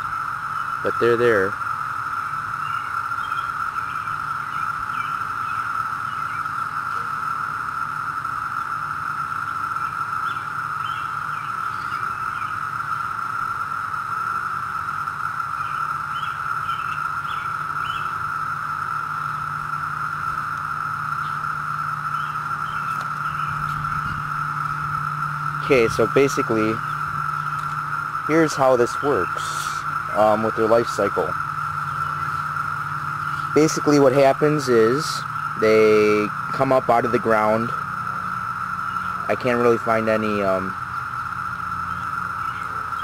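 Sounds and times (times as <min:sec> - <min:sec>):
cicadas shrill drone: 0:00.0 - 0:43.0.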